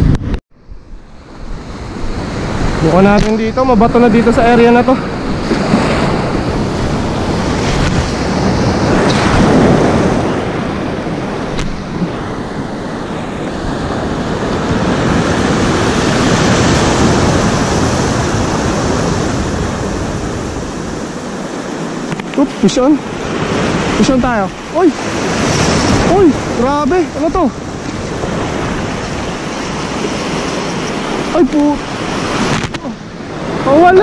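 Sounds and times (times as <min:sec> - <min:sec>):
sea surf breaking: 0:01.0 - 0:34.0.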